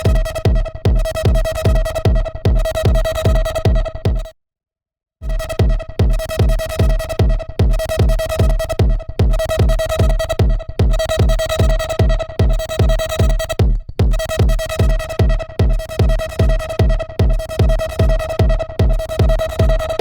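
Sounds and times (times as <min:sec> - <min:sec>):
kick drum beat: 0:00.0 - 0:04.4, 0:05.2 - 0:20.0.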